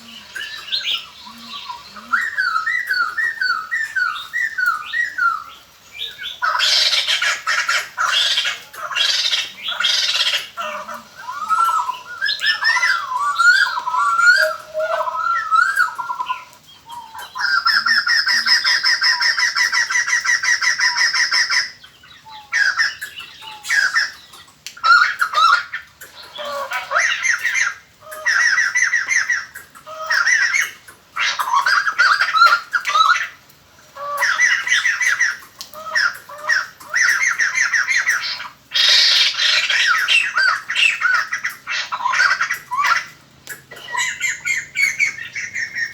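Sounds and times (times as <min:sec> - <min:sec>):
birds chattering squawky calls: 0:00.0 - 0:45.9.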